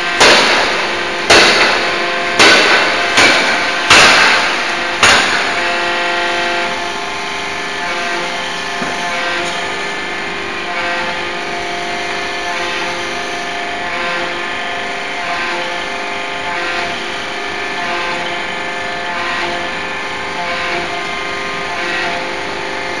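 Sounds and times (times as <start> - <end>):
forging hammer machine hum: 0.0 - 23.0.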